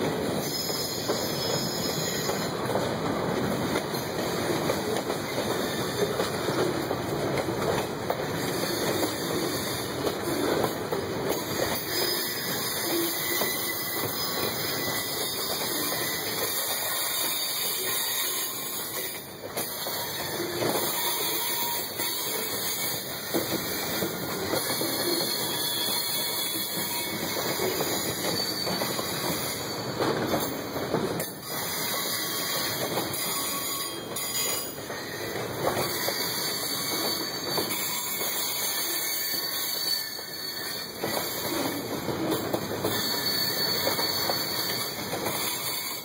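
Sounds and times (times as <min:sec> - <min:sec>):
rail clicks: 0:00.0 - 0:46.0
train wheels rumbling on rail: 0:00.0 - 0:46.0
high wheel squeal: 0:00.2 - 0:02.7, 0:05.2 - 0:06.2, 0:08.4 - 0:10.4, 0:11.3 - 0:46.0.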